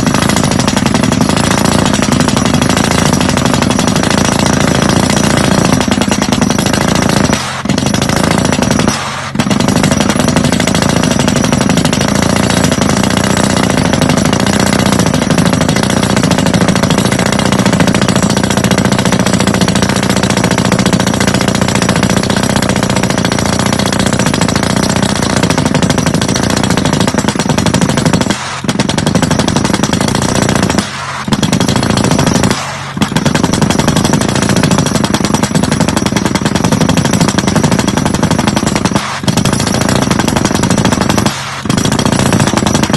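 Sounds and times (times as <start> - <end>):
drill rig hammer rattling: 0.0 - 42.9.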